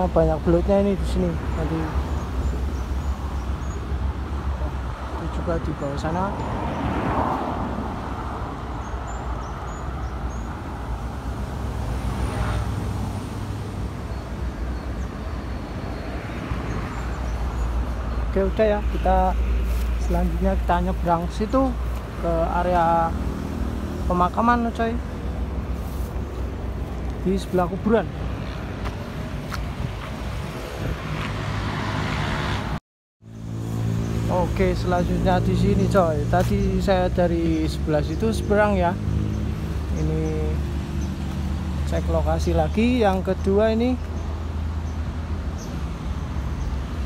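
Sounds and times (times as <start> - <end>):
vehicles driving past: 0.0 - 47.0.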